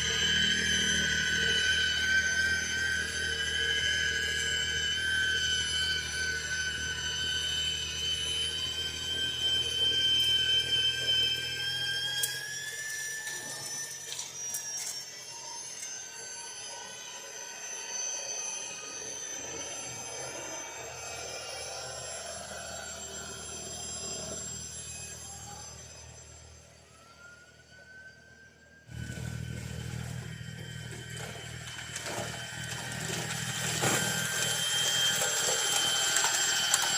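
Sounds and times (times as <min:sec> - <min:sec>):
snowblower motor whine: 0:00.0 - 0:36.9.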